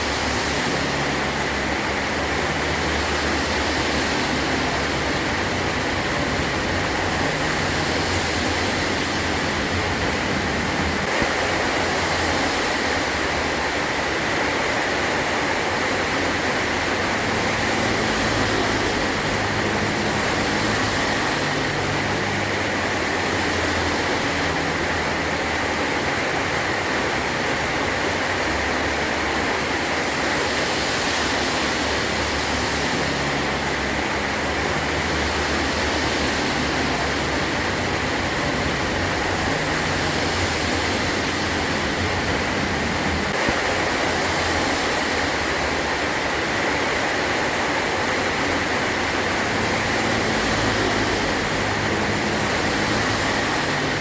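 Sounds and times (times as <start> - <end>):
heavy rain on a metal roof: 0.0 - 54.0.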